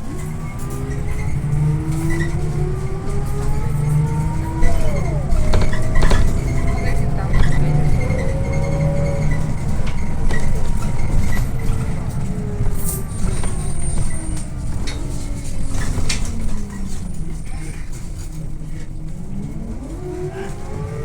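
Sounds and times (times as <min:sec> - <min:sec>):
body rattles and knocks: 0:00.0 - 0:21.0
bus engine rumble: 0:00.0 - 0:21.0
whining tones: 0:00.0 - 0:21.0.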